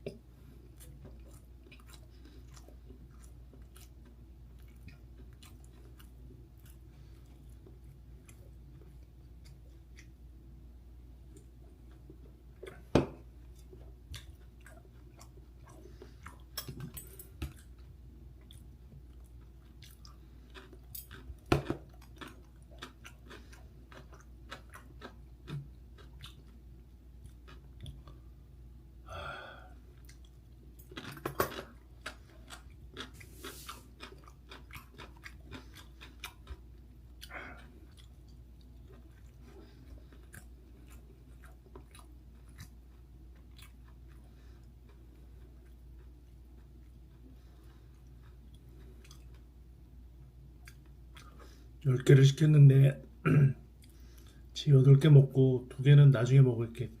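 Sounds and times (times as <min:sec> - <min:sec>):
person chewing: 0:00.0 - 0:10.3, 0:11.3 - 0:28.4, 0:29.2 - 0:51.8, 0:53.6 - 0:54.5.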